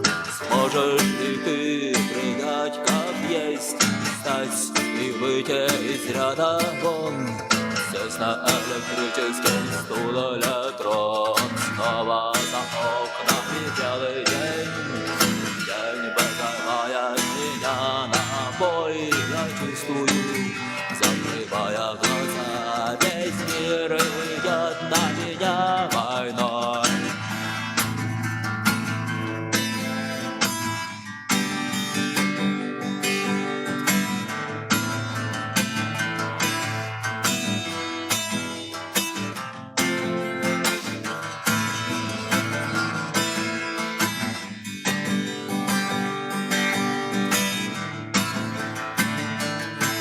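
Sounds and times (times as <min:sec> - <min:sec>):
strummed guitar: 0:00.0 - 0:50.0
wavering lead guitar melody: 0:00.0 - 0:50.0.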